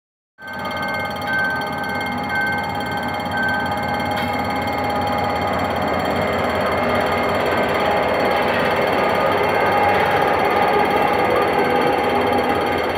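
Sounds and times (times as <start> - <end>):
diesel locomotive engine running: 0.4 - 12.9
level crossing alarm beeping: 0.4 - 12.9
steady high tone: 0.4 - 12.9
train wheels rumbling on rails: 0.4 - 12.9.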